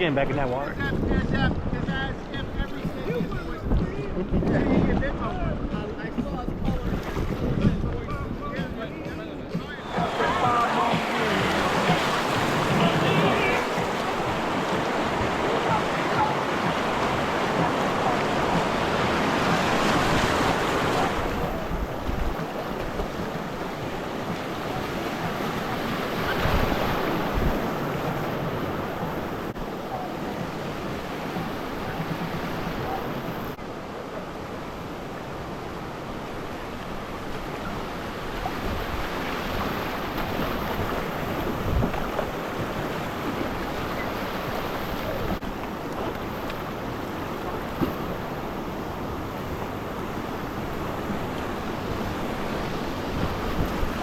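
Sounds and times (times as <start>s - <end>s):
wind buffeting microphone: 0.0s - 33.6s, 36.9s - 54.0s
river water rushing and splashing: 9.4s - 54.0s.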